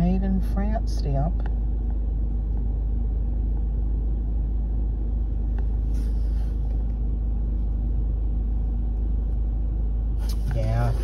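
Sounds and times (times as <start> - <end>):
low rumble with hum: 0.0 - 11.0.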